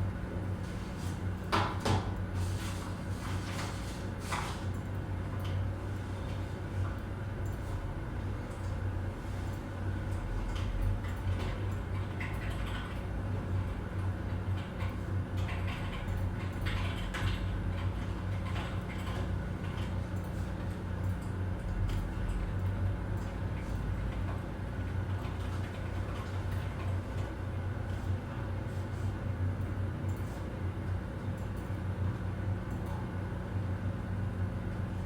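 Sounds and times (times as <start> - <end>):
low office hum: 0.0 - 35.0.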